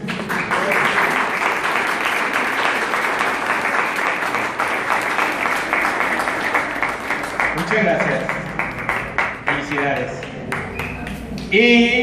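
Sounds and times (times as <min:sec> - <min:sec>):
crowd applauding: 0:00.0 - 0:11.5.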